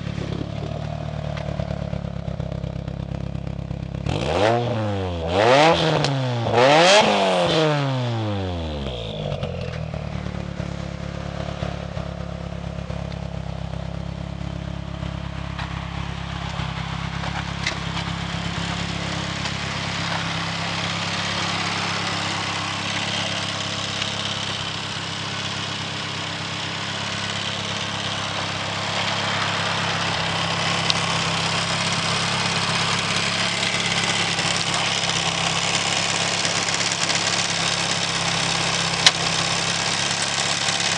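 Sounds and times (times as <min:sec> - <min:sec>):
turbocharged car engine revving and idling: 0:00.0 - 0:40.9.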